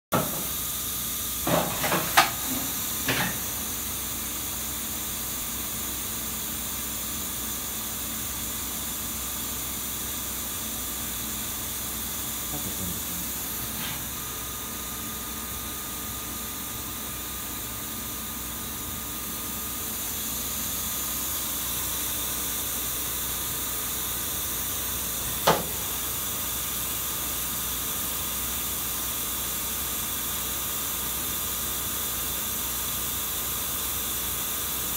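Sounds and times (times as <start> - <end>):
machine hiss and hum: 0.1 - 34.9.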